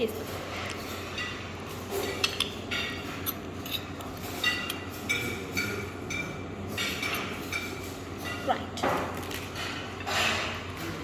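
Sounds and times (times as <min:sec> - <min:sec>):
cutlery clinking on a plate: 0:00.8 - 0:10.9.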